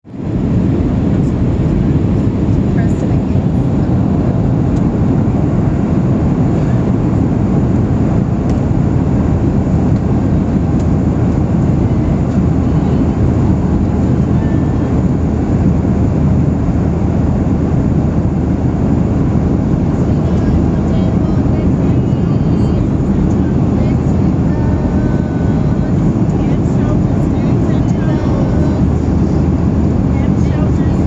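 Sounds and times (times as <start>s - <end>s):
airplane engine drone: 0.0s - 31.0s
low hum: 0.0s - 31.0s.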